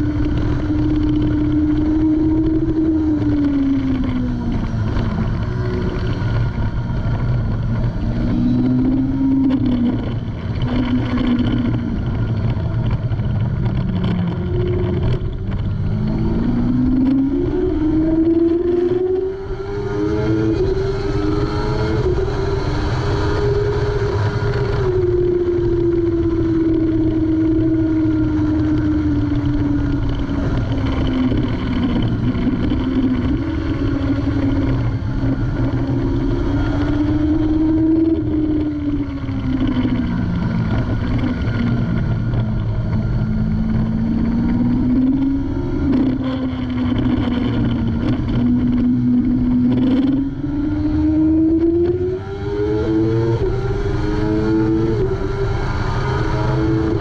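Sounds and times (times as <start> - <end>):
motorcycle engine running hard: 0.0 - 57.0
wind noise on microphone: 0.0 - 57.0.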